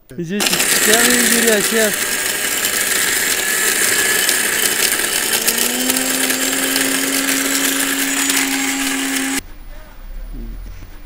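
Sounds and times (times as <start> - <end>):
blender grinding glass: 0.4 - 9.4
steady motor hum: 0.4 - 9.4.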